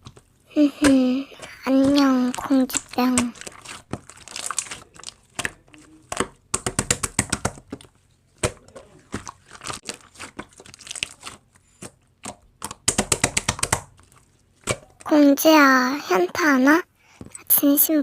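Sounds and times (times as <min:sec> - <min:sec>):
slime clicking and popping: 0:00.0 - 0:15.1.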